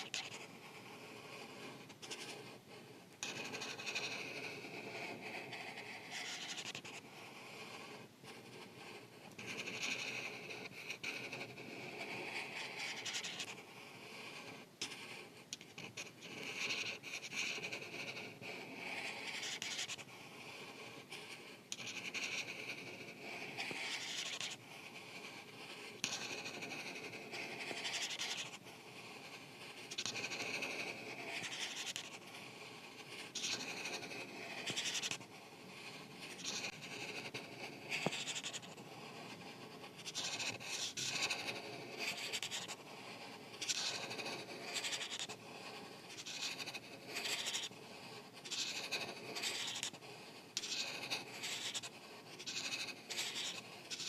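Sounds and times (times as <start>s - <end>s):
marker scratching across paper: 0.0s - 54.0s.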